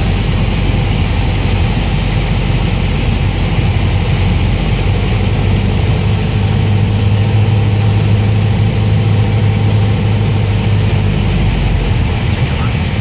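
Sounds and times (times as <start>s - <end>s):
propeller airplane engine droning: 0.0s - 13.0s.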